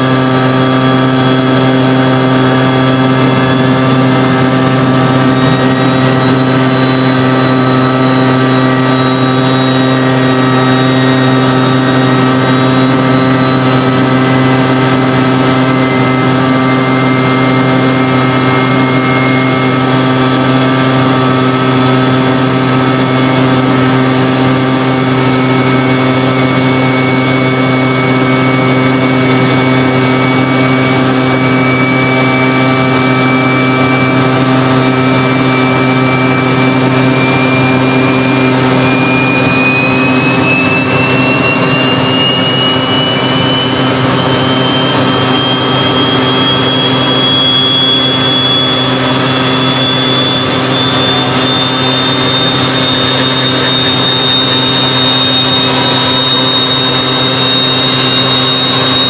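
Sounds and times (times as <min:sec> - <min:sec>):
jet engine roaring: 0:00.0 - 0:59.0
turbine whine rising in pitch: 0:00.0 - 0:59.0.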